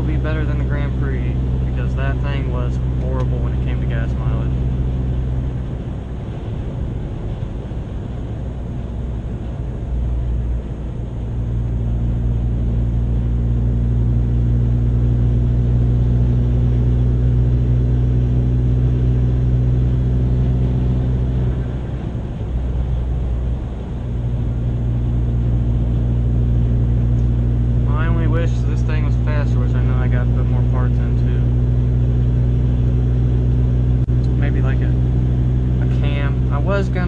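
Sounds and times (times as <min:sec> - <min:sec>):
car engine drone: 0:00.0 - 0:37.0
road noise: 0:00.0 - 0:37.0.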